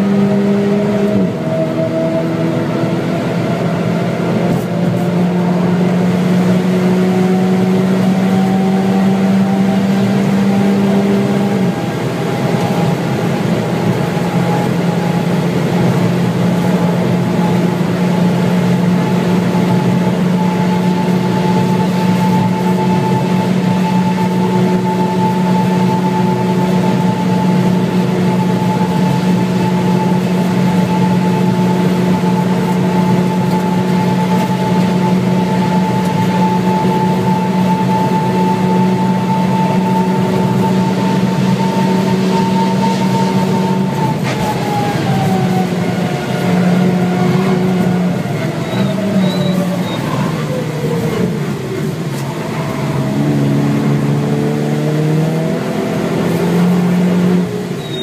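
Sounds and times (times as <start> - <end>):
car engine accelerating: 0.0 - 58.0
wind and tyre noise: 0.0 - 58.0.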